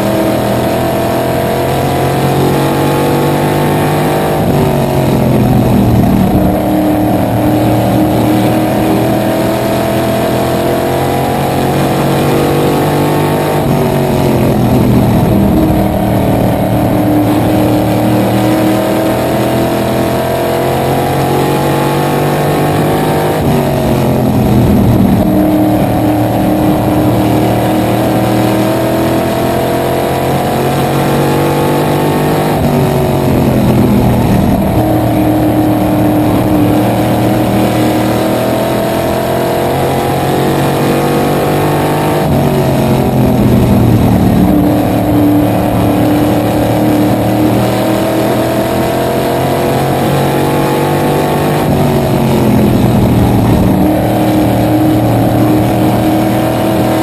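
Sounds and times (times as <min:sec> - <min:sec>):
race car engine at speed: 0:00.0 - 0:57.0.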